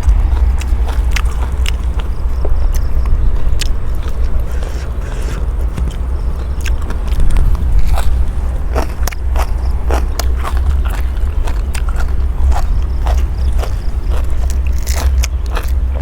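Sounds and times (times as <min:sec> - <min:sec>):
person chewing crunchy food: 0:00.0 - 0:16.0
steady low rumble: 0:00.0 - 0:16.0.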